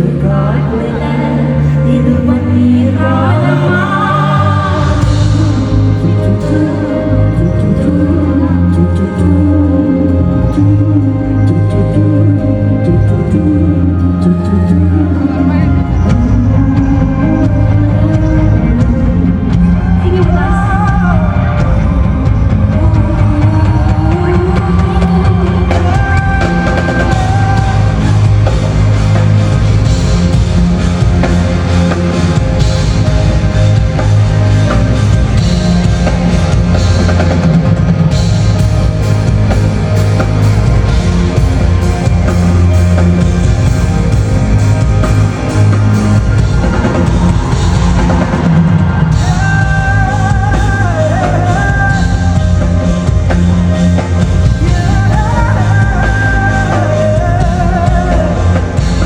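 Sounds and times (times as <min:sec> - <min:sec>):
heavy bass: 0:00.0 - 0:59.0
bent melodic line: 0:00.1 - 0:59.0
drum kit: 0:03.0 - 0:12.0, 0:12.8 - 0:59.0.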